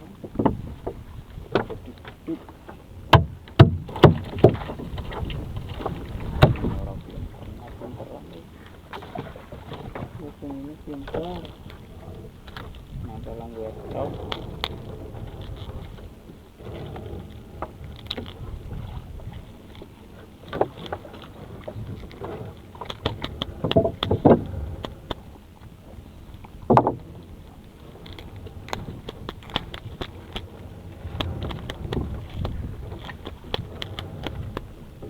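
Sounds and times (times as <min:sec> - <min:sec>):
knocks and clatter on boat: 0:00.0 - 0:35.0
wind: 0:00.0 - 0:35.0.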